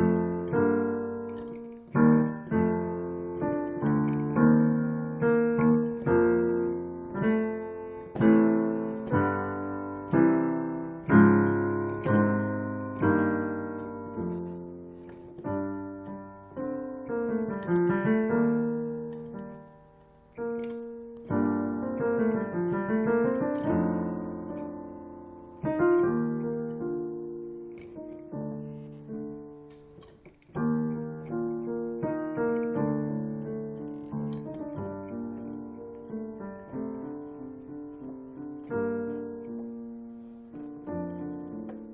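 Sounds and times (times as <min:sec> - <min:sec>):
solo piano playing slow chords: 0:00.0 - 0:41.9.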